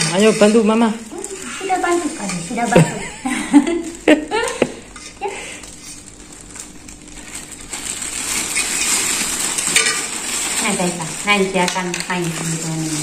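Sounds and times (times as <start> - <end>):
plastic bag crinkling: 0.0 - 4.6, 5.2 - 13.0.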